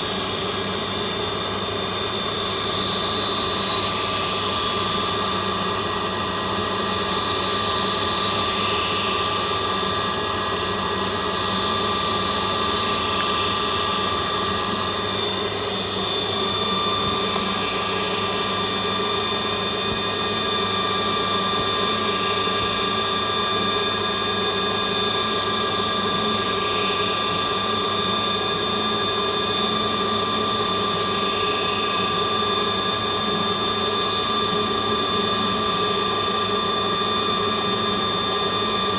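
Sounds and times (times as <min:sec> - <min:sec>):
lathe motor whine: 0:00.0 - 0:38.9.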